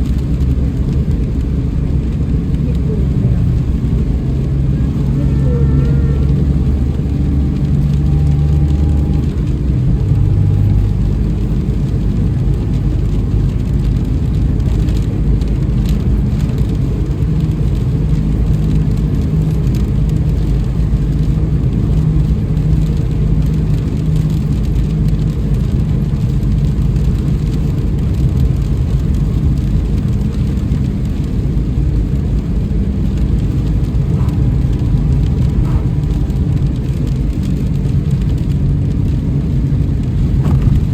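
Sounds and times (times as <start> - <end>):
car engine and road noise: 0.0 - 40.9
rain pattering on car: 0.0 - 40.9.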